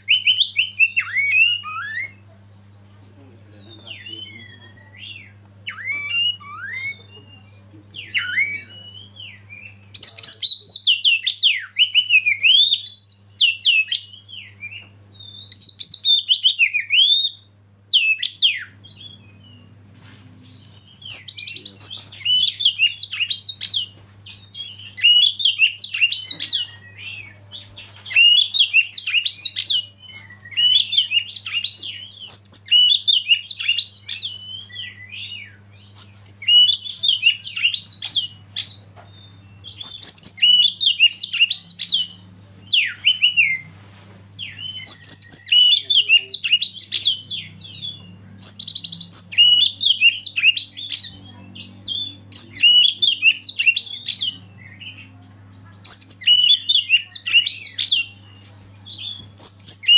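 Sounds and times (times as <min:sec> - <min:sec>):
bird singing: 0:00.0 - 0:59.9
faint low hum: 0:00.0 - 0:59.9.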